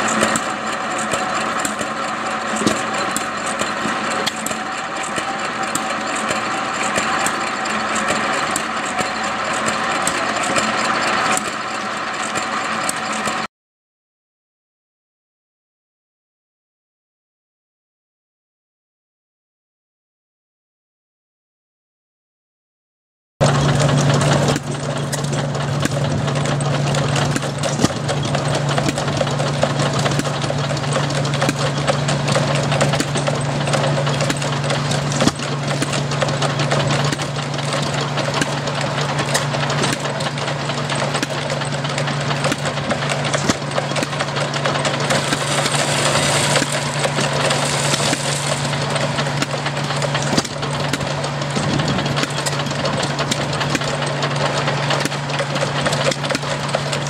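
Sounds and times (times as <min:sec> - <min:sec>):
corn sheller clattering: 0:00.0 - 0:13.5, 0:23.4 - 0:57.0
stationary engine running: 0:00.0 - 0:13.5, 0:23.4 - 0:57.0.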